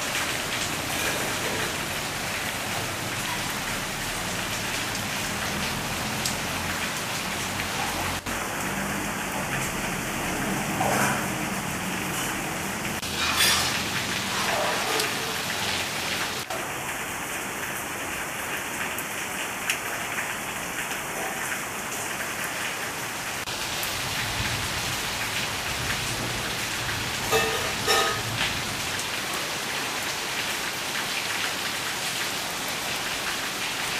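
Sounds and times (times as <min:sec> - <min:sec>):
rain falling steadily: 0:00.0 - 0:33.9.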